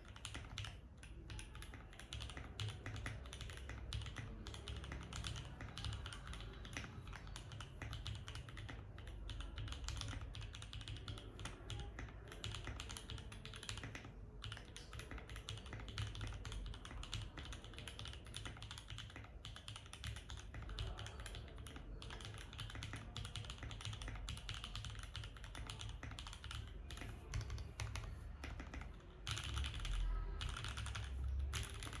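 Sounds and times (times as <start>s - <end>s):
fast mechanical keyboard typing: 0.0s - 32.0s.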